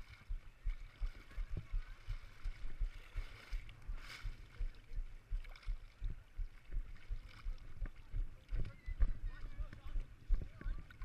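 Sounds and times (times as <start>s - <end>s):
water sloshing against camera: 0.0s - 11.0s.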